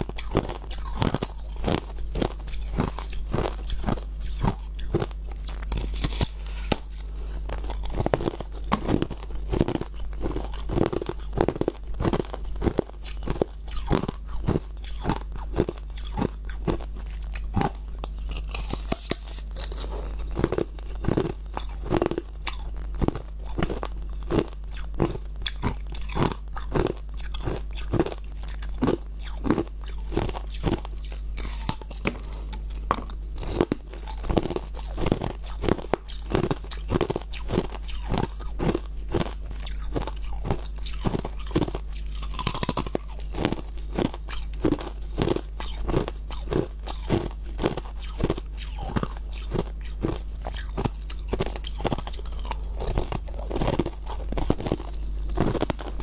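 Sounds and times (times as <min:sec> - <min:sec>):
ice crunching being chewed: 0:00.0 - 0:56.0.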